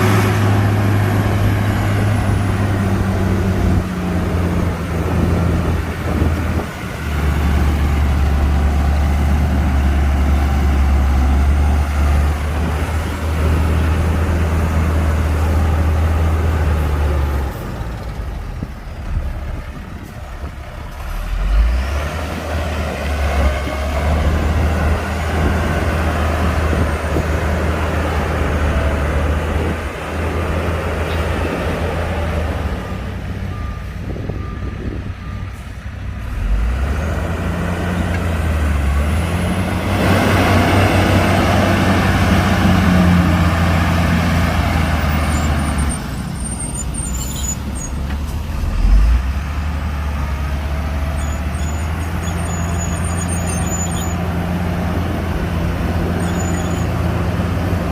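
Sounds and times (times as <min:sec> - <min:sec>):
heavy diesel engines working: 0:00.0 - 0:57.9.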